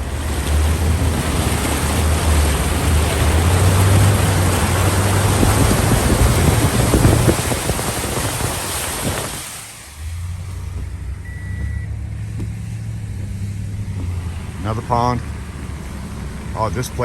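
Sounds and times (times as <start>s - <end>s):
car engine humming: 0.0s - 17.0s
tyres throwing up water spray: 0.0s - 17.0s.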